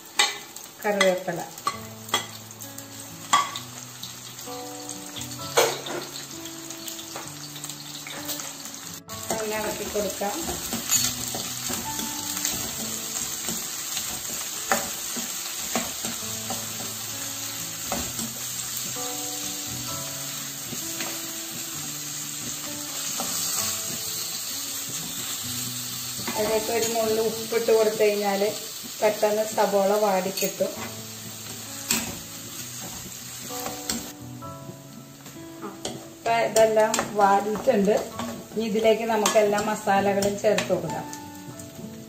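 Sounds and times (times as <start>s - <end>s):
quiet background music: 0.0s - 42.0s
vegetables sizzling in oil: 0.0s - 42.0s.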